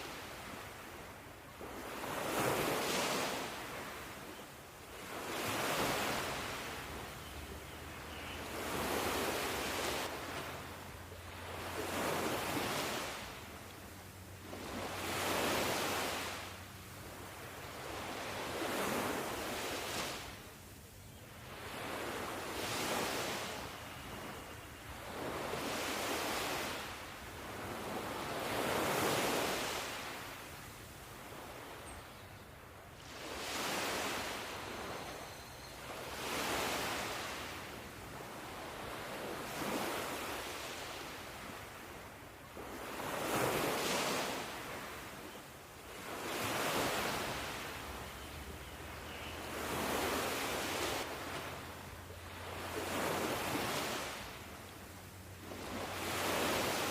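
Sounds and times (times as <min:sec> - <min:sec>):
ocean waves breaking: 0:00.0 - 0:04.2, 0:04.9 - 0:20.4, 0:21.5 - 0:30.5, 0:33.0 - 0:35.2, 0:35.8 - 0:45.2, 0:45.8 - 0:56.9.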